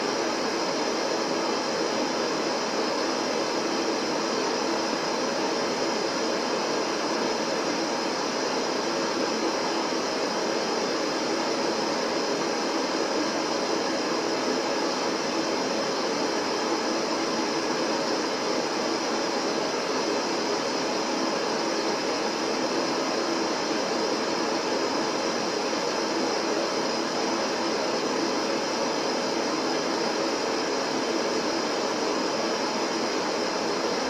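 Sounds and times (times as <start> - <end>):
steady colored noise hiss: 0.0 - 34.0.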